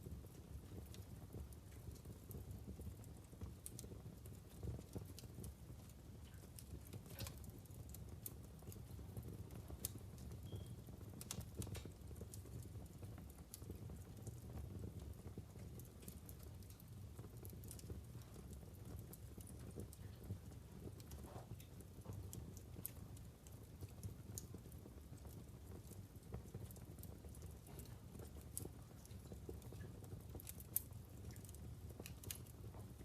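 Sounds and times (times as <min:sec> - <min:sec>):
logs crackling and popping in fire: 0:00.0 - 0:33.0
low steady fire rumble: 0:00.0 - 0:33.0.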